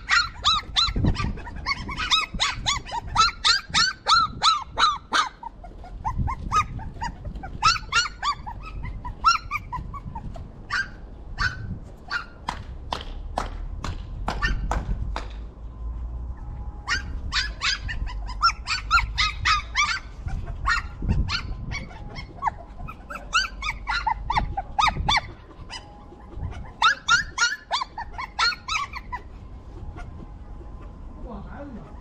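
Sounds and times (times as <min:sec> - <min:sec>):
puppies whimpering and yipping: 0:00.0 - 0:12.4, 0:16.3 - 0:31.0, 0:31.7 - 0:32.0.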